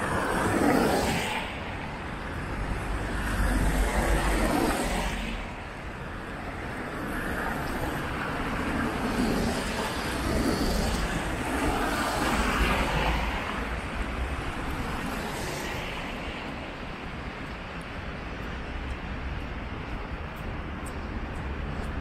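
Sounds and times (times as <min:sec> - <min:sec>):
tyres hissing on wet road: 0:00.0 - 0:21.9
steady street hum: 0:00.0 - 0:22.0.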